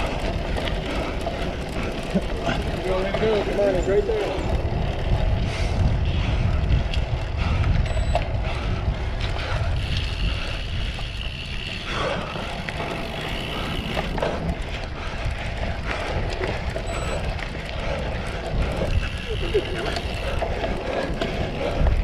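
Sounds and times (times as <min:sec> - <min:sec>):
bike rattling over rough ground: 0:00.0 - 0:22.0
wind buffeting microphone: 0:00.0 - 0:22.0.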